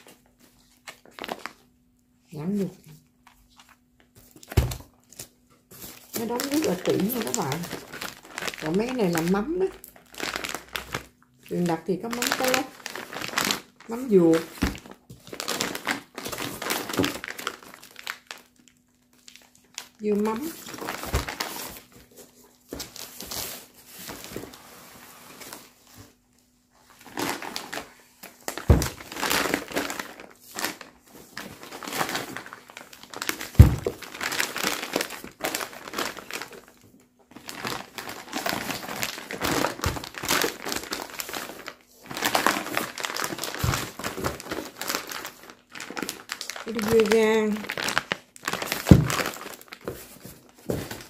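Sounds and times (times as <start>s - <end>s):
plastic bags crinkling: 0.0s - 24.6s, 25.2s - 51.0s.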